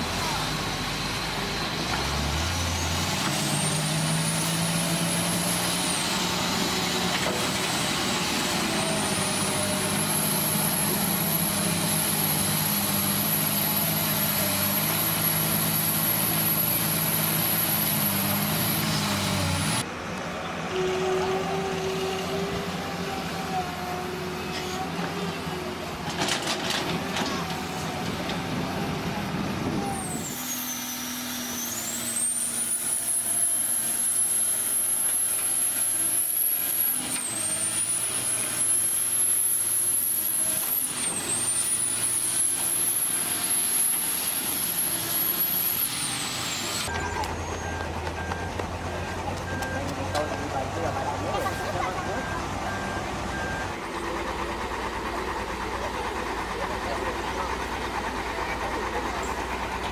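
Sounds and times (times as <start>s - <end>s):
excavator diesel engine revving: 0.0s - 59.9s.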